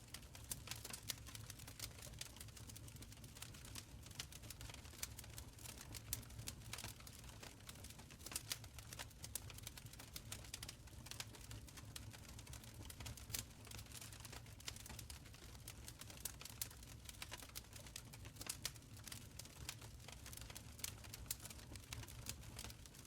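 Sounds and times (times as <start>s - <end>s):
low rumble of burning: 0.1s - 23.0s.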